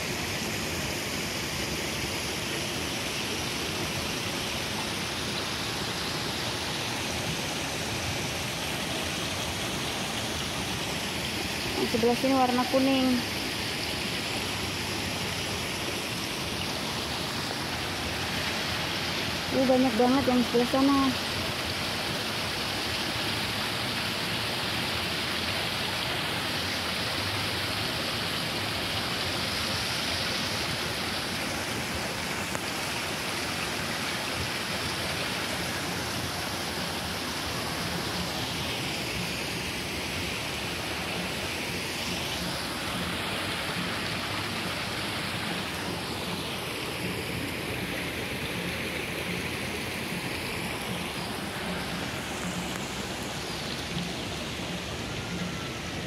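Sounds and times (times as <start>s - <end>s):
water splashing into a pond: 0.0s - 56.0s.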